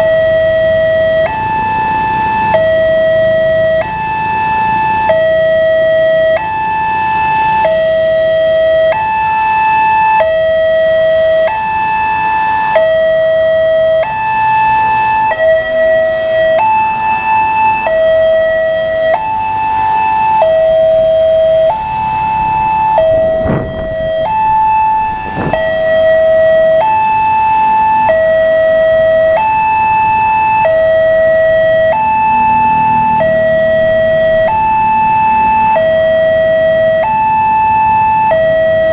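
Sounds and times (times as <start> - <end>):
level-crossing two-tone alarm: 0.0 - 38.9.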